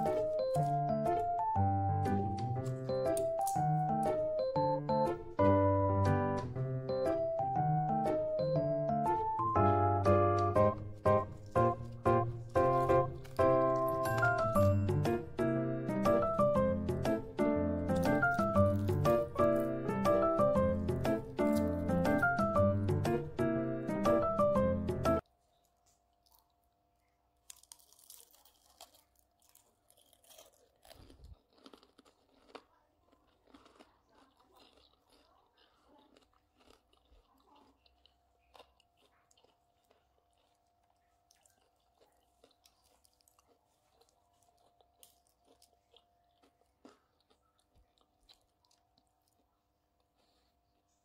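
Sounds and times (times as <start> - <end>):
crunching onion rings: 0.0 - 4.3, 8.2 - 14.8, 17.2 - 22.6, 25.2 - 51.0.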